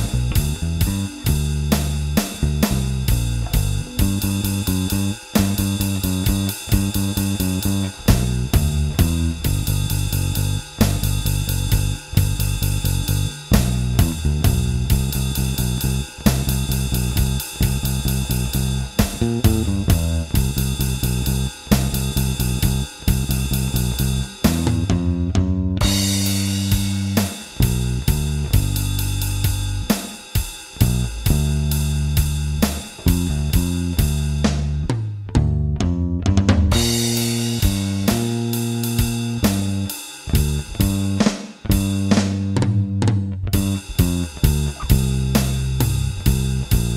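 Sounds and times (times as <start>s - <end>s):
drum track with cymbals: 0.0s - 25.2s, 25.8s - 35.2s, 36.4s - 46.9s
plucked electric bass line: 0.0s - 29.9s, 30.8s - 46.9s.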